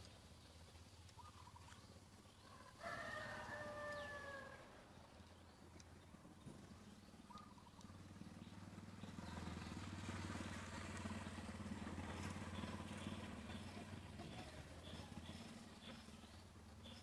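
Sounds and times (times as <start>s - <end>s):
passing vehicle engine hum: 0.0s - 17.0s.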